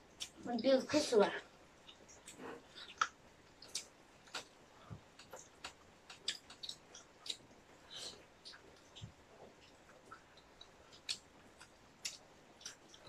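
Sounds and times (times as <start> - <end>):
people chewing food: 0.0 - 0.4, 1.4 - 13.0.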